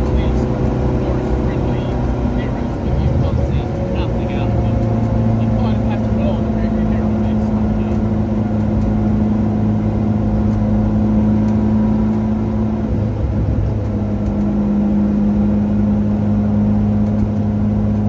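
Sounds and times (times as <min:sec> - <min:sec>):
rally car engine: 0:00.0 - 0:18.0.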